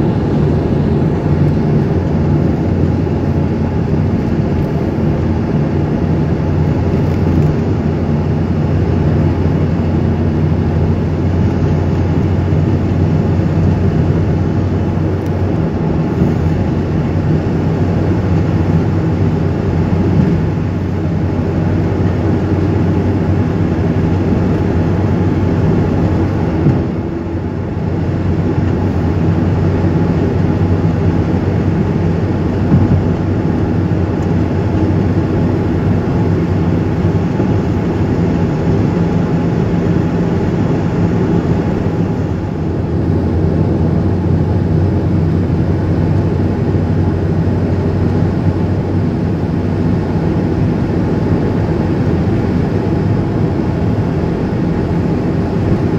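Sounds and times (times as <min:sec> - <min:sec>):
car engine drone: 0:00.0 - 0:55.9
road rumble: 0:00.0 - 0:55.9.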